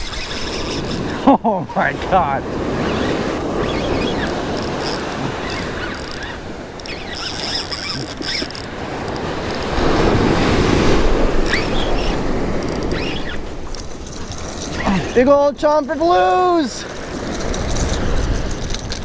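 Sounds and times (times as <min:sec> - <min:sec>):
small waves breaking on sand: 0:00.0 - 0:06.8, 0:08.7 - 0:18.8
wind buffeting microphone: 0:00.0 - 0:19.0.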